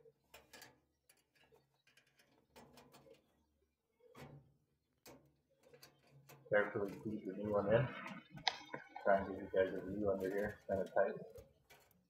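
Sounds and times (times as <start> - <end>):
soft handling clicks and rustles: 0.1 - 12.0.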